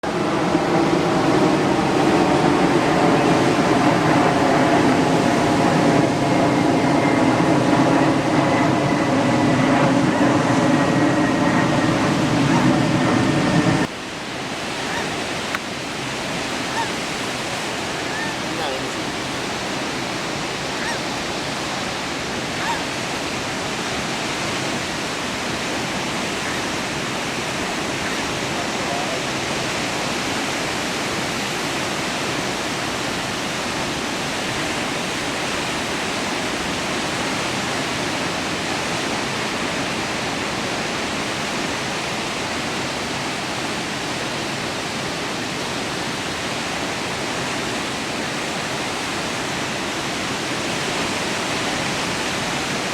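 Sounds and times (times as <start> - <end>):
ocean surf: 0.0 - 52.9.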